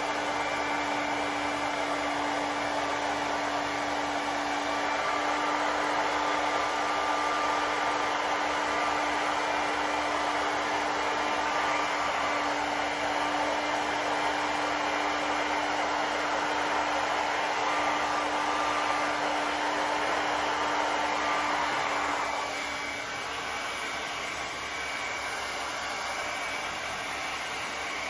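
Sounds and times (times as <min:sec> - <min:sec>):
hair dryer blowing air: 0:00.0 - 0:28.0.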